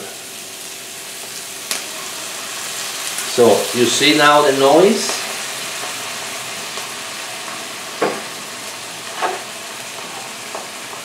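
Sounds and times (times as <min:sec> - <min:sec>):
onion and garlic sizzling in pan: 0:00.0 - 0:11.0.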